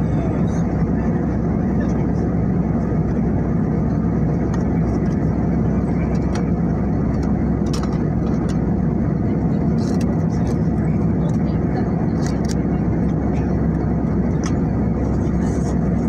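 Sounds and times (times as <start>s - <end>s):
jet cabin engine rumble: 0.0s - 16.0s.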